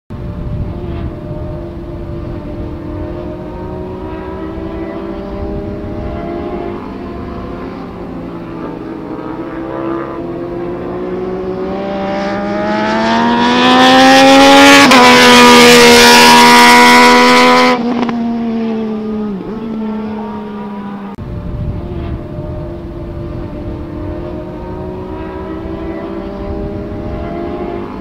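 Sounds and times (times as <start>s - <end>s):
motorcycle engine accelerating past: 0.2s - 28.0s.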